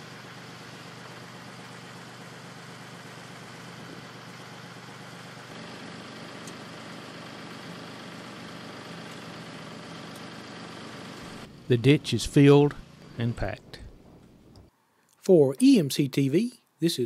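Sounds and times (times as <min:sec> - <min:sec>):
engine idling: 0:00.0 - 0:14.5.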